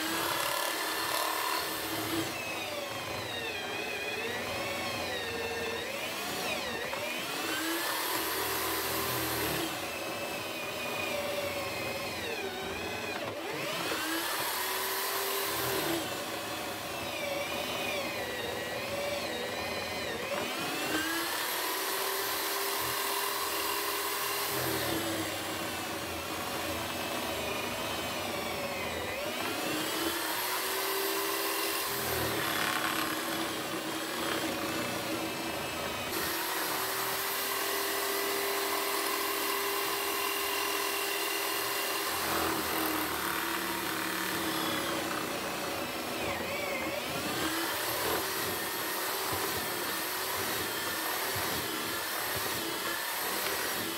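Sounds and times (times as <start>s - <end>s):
electric motor whining under load: 0.0s - 53.9s.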